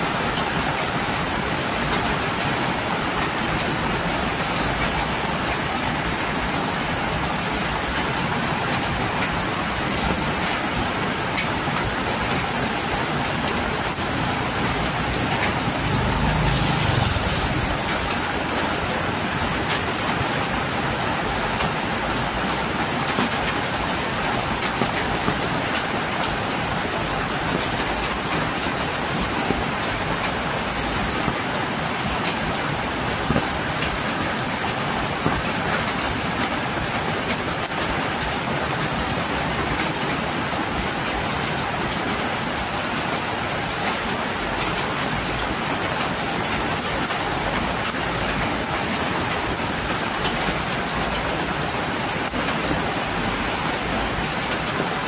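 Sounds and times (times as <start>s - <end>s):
heavy rain pouring: 0.0s - 55.0s
water streaming off roof: 0.0s - 55.0s.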